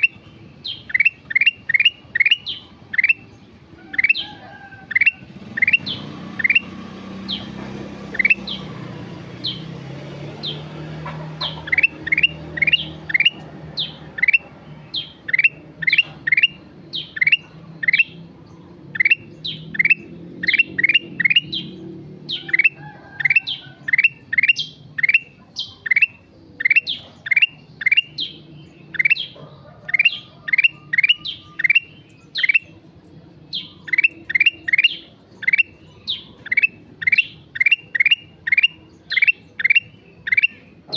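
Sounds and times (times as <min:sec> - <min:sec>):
bulbul singing whistled notes: 0:00.0 - 0:04.3, 0:04.9 - 0:09.8, 0:11.4 - 0:40.9.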